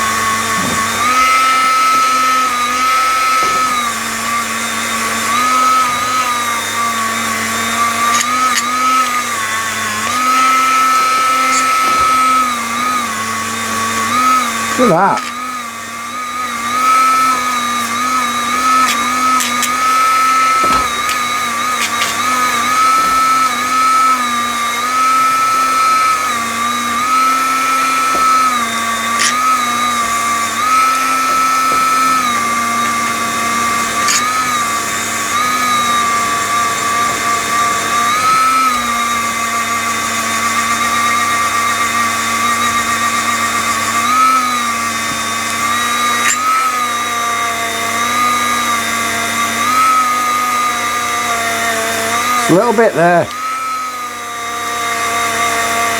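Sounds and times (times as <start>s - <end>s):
rotary tool grinding metal: 0.0s - 55.9s.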